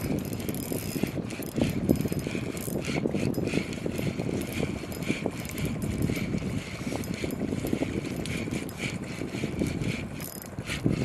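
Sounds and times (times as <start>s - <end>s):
fishing reel gears clicking: 0.0s - 11.0s.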